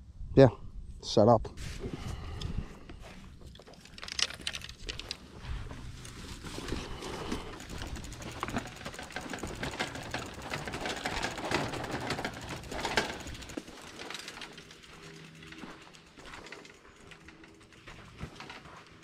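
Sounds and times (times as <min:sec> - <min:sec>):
bicycle clicking and rattling: 0:03.3 - 0:19.0.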